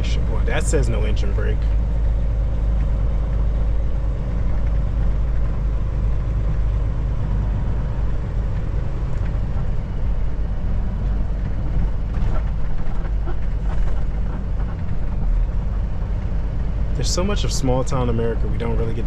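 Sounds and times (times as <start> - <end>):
road noise: 0.0 - 19.0
truck diesel engine drone: 0.0 - 19.0.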